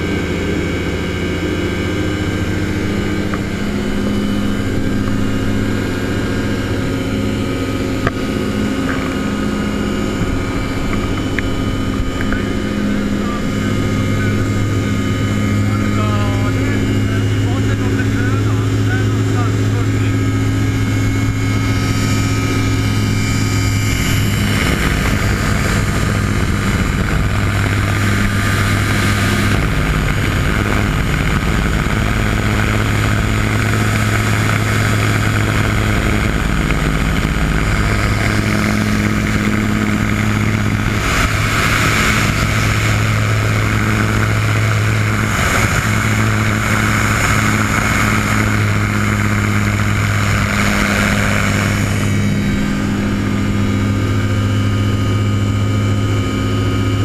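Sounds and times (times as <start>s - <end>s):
airflow rushing over cockpit: 0.0s - 57.0s
light aircraft engine droning: 0.0s - 57.0s.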